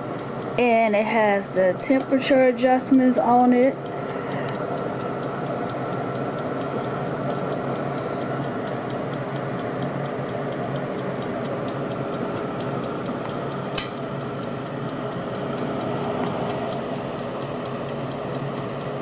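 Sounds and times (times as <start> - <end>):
air fryer fan hum: 0.0 - 19.0
dial timer ticking: 0.1 - 19.0.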